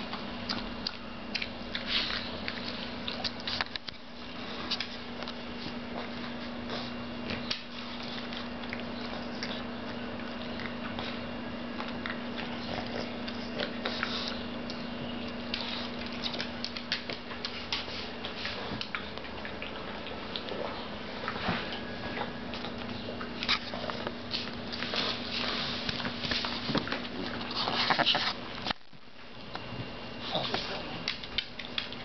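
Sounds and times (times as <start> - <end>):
dog licking and chewing: 0.0 - 32.0.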